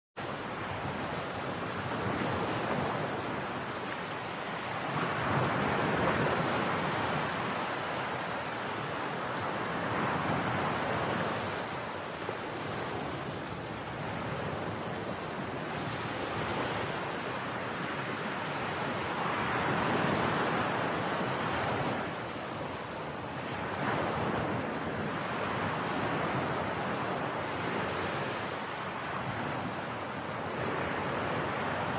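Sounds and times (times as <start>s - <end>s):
wind: 0.2s - 31.9s.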